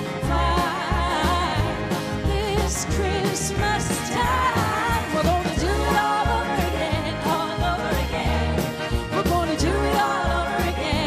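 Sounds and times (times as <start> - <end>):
button accordion: 0.0 - 11.0
live band playing pop song: 0.0 - 11.0.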